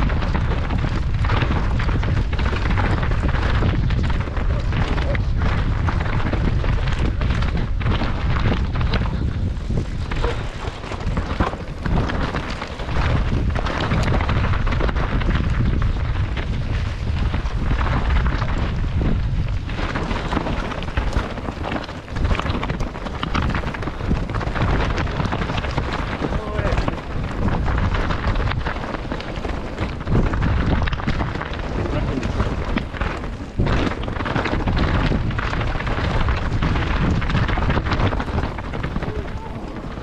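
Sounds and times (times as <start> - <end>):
bike knocking and rattling: 0.0 - 40.0
wind buffeting microphone: 0.0 - 40.0.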